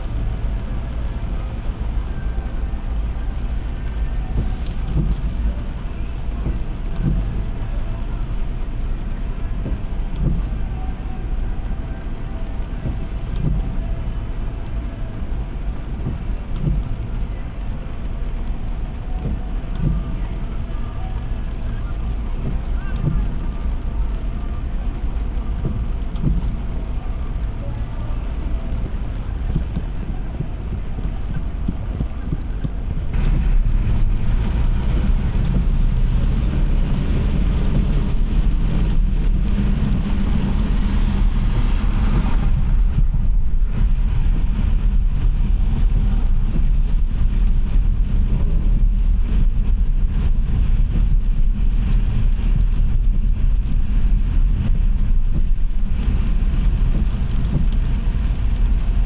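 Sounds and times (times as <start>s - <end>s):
road and engine rumble: 0.0s - 59.0s
tyres hissing on wet road: 0.0s - 59.0s.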